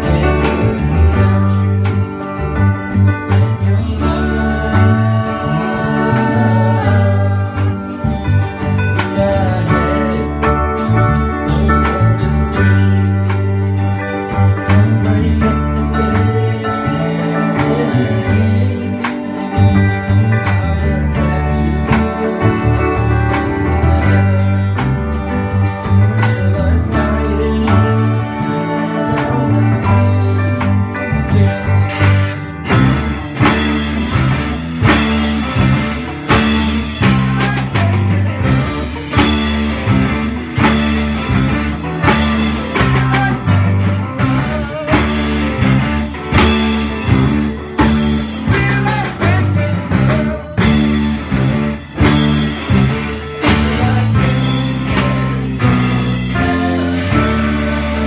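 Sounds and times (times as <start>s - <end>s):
drum kit steady beat: 0.0s - 58.0s
electric guitars: 0.0s - 58.0s.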